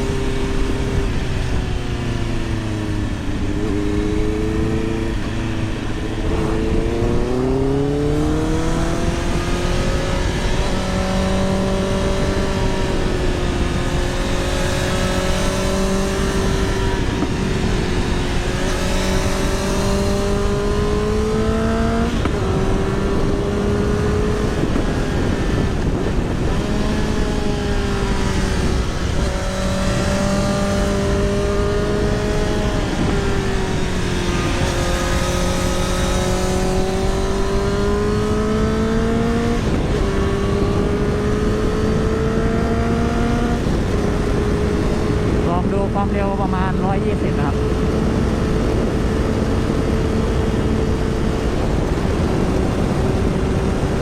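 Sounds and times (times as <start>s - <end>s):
motorcycle engine revving: 0.0s - 54.0s
wind rumble on microphone: 0.0s - 54.0s.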